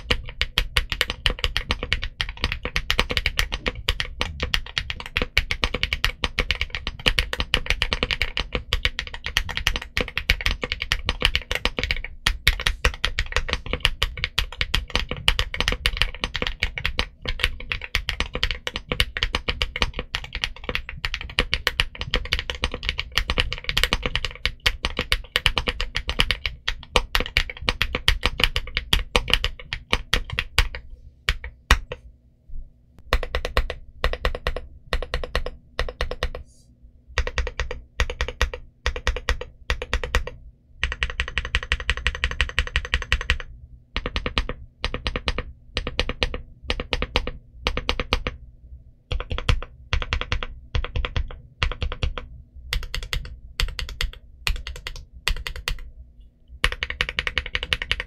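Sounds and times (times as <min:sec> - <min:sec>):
typing on mechanical keyboard: 0:00.0 - 0:32.0, 0:33.1 - 0:36.4, 0:37.2 - 0:48.4, 0:49.1 - 0:55.9, 0:56.6 - 0:58.0.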